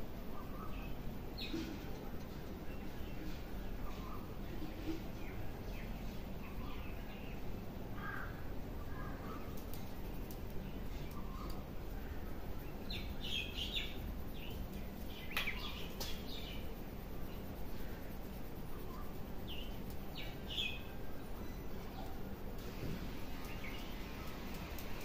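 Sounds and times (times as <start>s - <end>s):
birds chirping: 0.0s - 22.4s, 23.1s - 25.0s.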